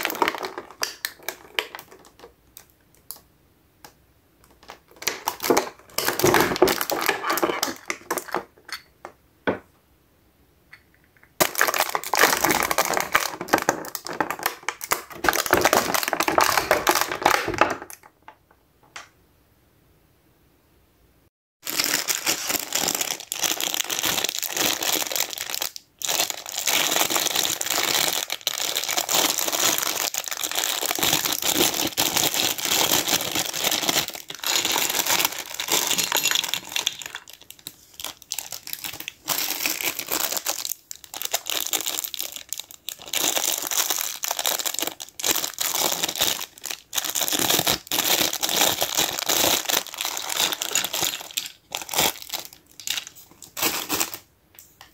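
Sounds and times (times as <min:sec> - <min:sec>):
plastic bag crinkling: 0:00.0 - 0:02.7, 0:04.5 - 0:08.7, 0:11.4 - 0:18.1, 0:21.6 - 0:54.3.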